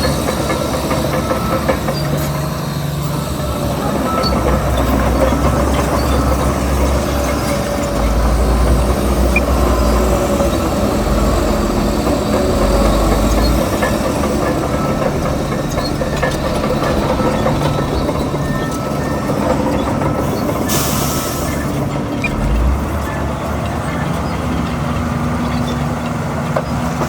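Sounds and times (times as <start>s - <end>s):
heavy diesel machinery working: 0.0s - 27.0s.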